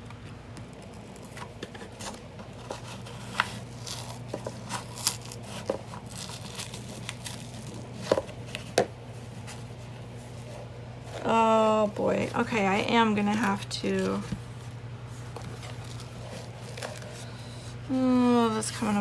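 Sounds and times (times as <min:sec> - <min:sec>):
paper crinkling and tearing: 0:00.8 - 0:10.5, 0:13.2 - 0:19.0.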